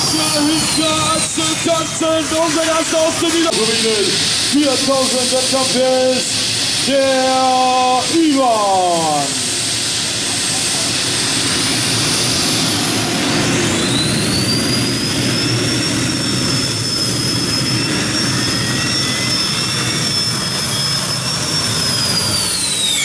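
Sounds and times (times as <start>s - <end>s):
tractor engine with high whine: 0.0s - 23.0s.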